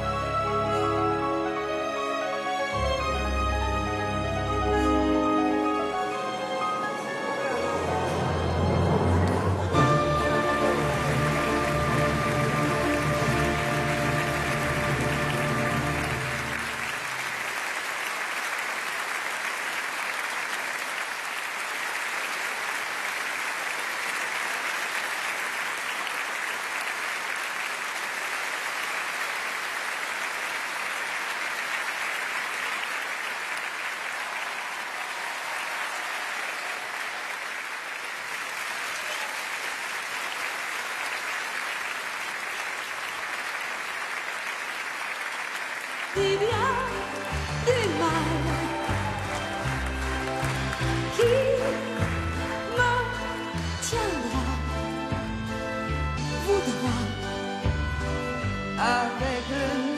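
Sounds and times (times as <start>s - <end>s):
large audience applauding: 0.0s - 58.3s.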